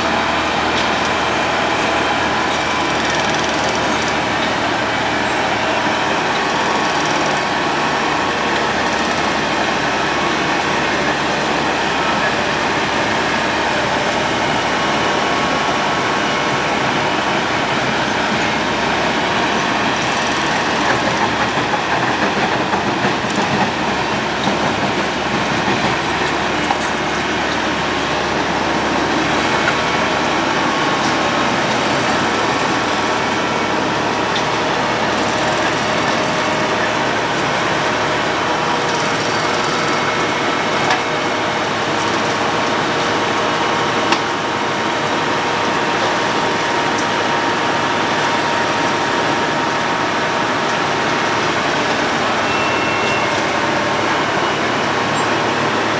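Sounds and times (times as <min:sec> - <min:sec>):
road planer grinding asphalt: 0:00.0 - 0:55.9.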